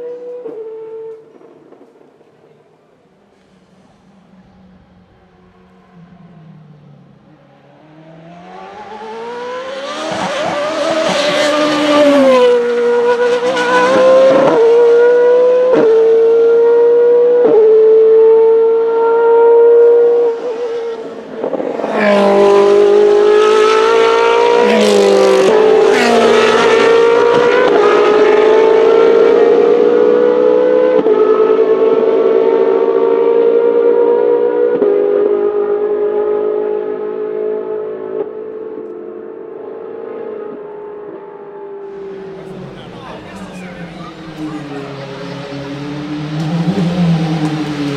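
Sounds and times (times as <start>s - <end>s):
racing engine accelerating: 3.8s - 47.9s.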